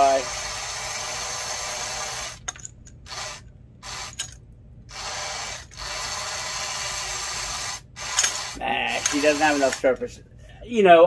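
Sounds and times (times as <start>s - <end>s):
toy crane motor whirring: 0.0s - 10.0s.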